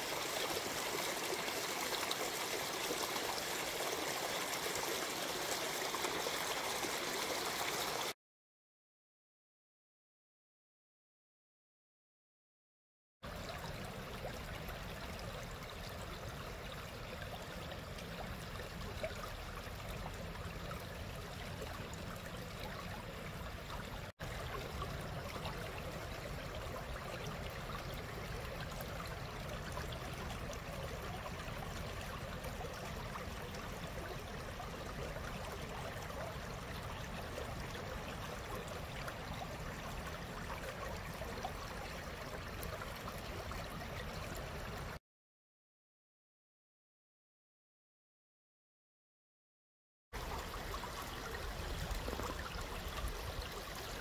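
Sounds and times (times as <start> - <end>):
stream babbling over stones: 0.0 - 8.2, 13.3 - 45.0, 50.2 - 54.0.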